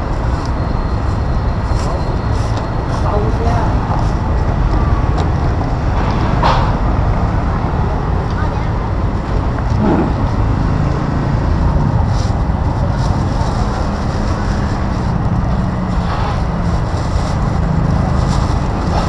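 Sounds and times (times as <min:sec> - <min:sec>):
passing traffic rumble: 0:00.0 - 0:19.0.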